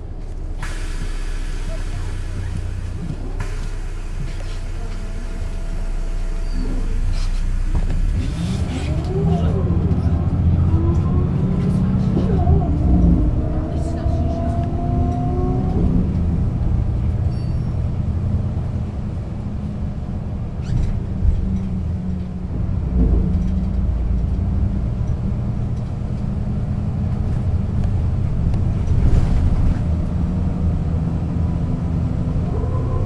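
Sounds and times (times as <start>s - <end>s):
bus diesel engine droning: 0.0s - 33.0s.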